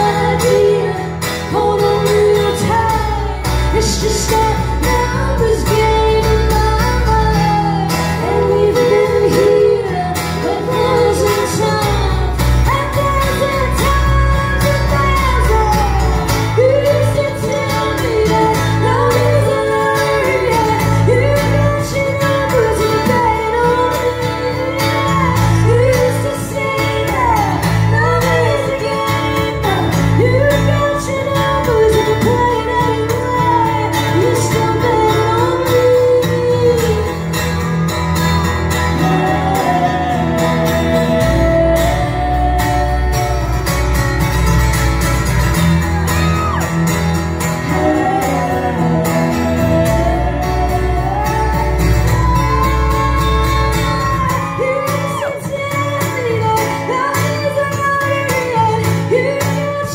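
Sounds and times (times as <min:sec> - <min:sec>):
woman singing: 0:00.0 - 0:44.0, 0:45.8 - 0:59.9
bass notes: 0:00.0 - 0:57.0
acoustic and electric guitars: 0:00.0 - 0:59.9.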